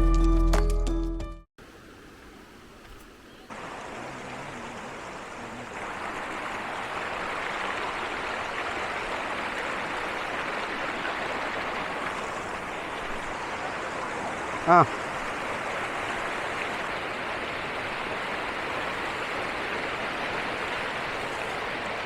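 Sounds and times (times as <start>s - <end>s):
rushing water: 1.6s - 22.0s.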